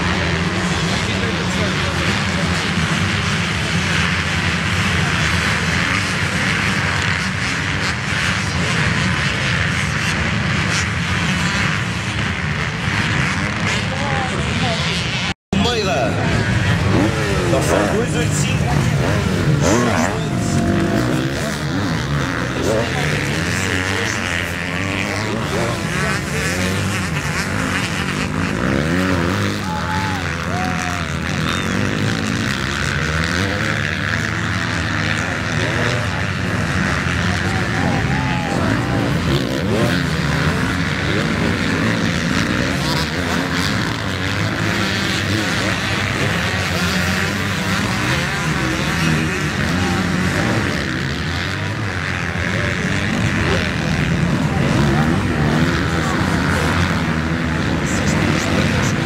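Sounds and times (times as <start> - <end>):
motocross bike engines droning: 0.0 - 59.0.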